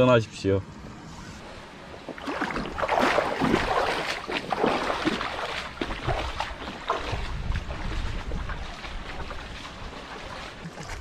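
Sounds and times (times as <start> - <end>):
low rush of flowing water: 1.4 - 11.0
water splashing and sloshing: 1.4 - 11.0.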